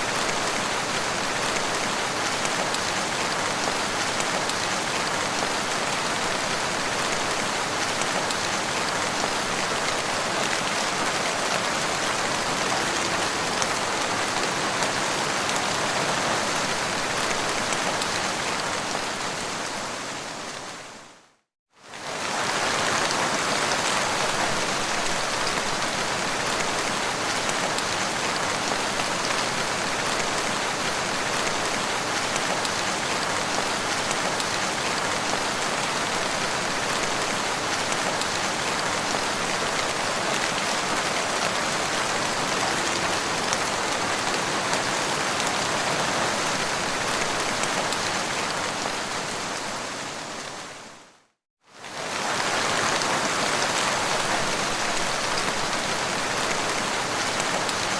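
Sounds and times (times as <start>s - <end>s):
rain pattering on ground: 0.0s - 19.7s, 21.8s - 49.4s, 51.7s - 57.9s.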